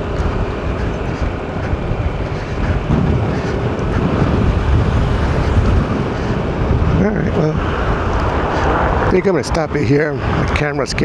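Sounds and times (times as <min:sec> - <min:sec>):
air rushing through open window: 0:00.0 - 0:11.0
car road and wind noise: 0:00.0 - 0:11.0.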